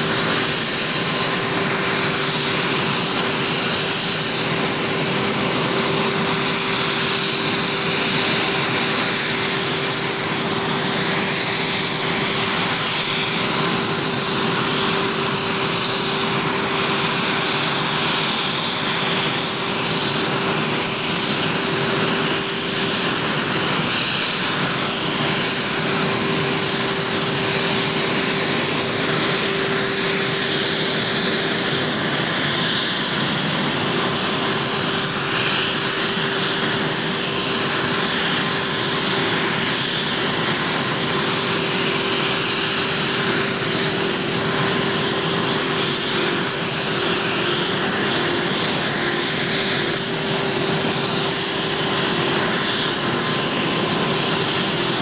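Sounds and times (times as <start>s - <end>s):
jet aircraft taxiing: 0.0s - 55.0s.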